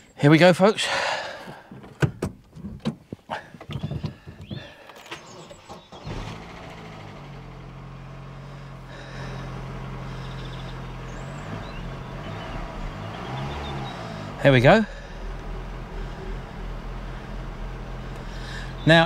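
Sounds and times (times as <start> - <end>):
car engine starting clicks: 1.4 - 19.0
car engine idling: 3.3 - 19.0.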